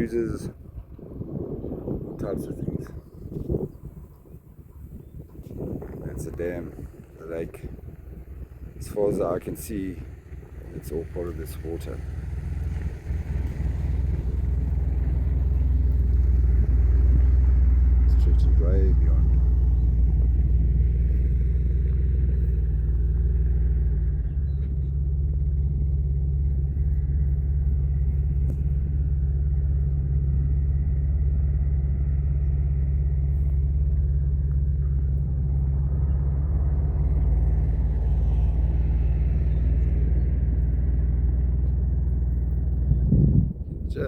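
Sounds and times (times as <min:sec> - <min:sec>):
truck engine droning: 0:00.0 - 0:44.0
tyre and road noise: 0:00.0 - 0:44.0.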